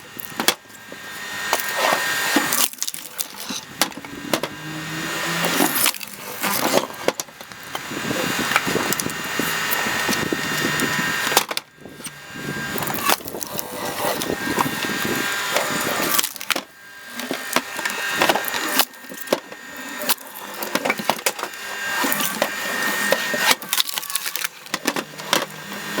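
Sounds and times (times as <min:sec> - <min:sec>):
log splitter machine humming: 0:00.0 - 0:26.0
wood cracking and splintering: 0:00.0 - 0:26.0.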